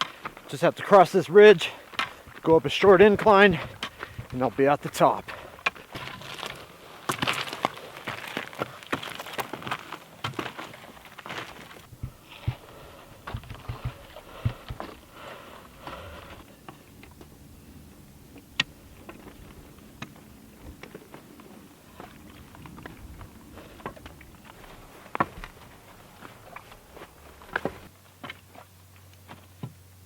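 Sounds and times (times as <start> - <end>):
footsteps crunching on slope: 0.0 - 16.5, 18.6 - 29.6.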